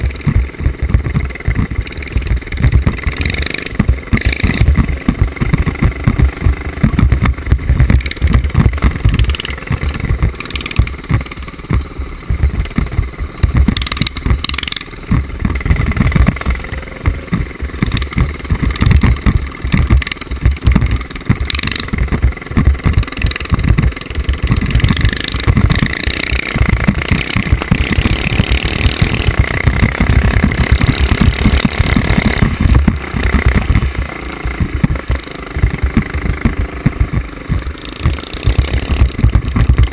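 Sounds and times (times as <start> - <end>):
mini bike engines revving: 0.0 - 39.9
wind rumble on microphone: 0.0 - 39.9.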